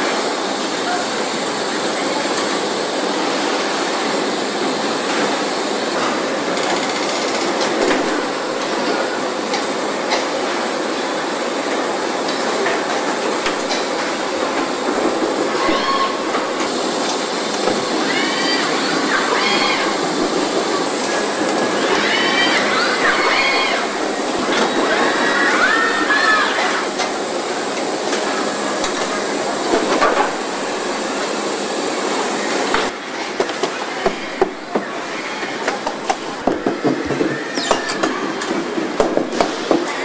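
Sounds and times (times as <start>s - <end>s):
factory machinery hiss and clatter: 0.0s - 40.0s.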